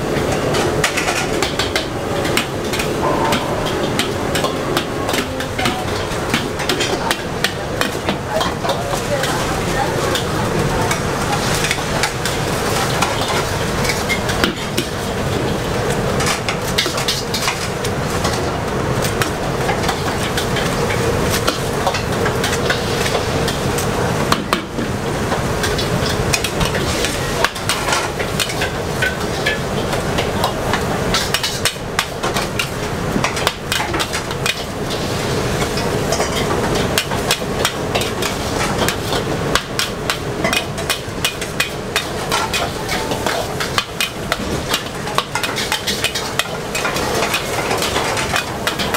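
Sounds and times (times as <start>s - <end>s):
noodles sizzling in a wok: 7.0s - 48.9s.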